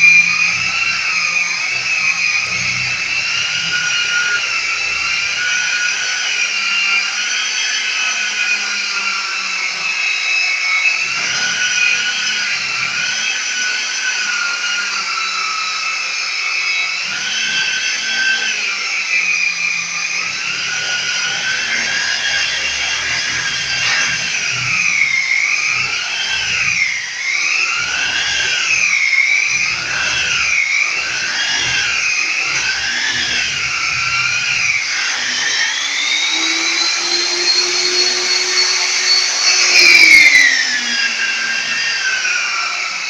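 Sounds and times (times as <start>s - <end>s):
electric sander whining: 0.0s - 43.0s.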